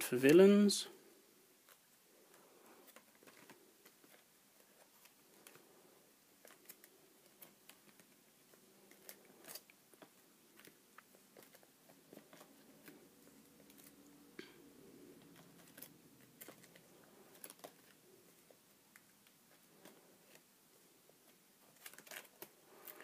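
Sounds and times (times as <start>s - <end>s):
plastic sleeves crinkling: 1.6s - 14.4s, 15.0s - 20.5s, 21.1s - 23.0s.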